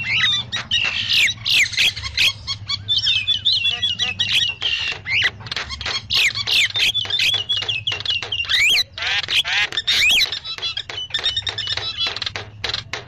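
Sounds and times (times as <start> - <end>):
mynas calling noisily: 0.0 - 12.9.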